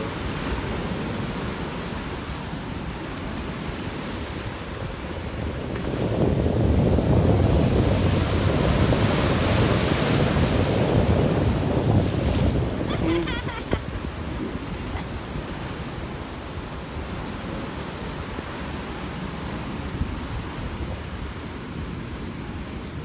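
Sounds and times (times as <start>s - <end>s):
ocean surf breaking: 0.0s - 23.0s
wind on microphone: 0.0s - 23.0s.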